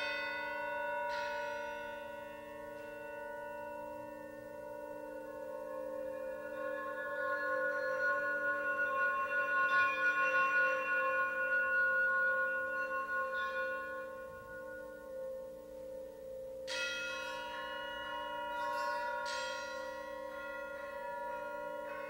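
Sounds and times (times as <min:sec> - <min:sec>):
low sustained tones: 0:00.0 - 0:22.0.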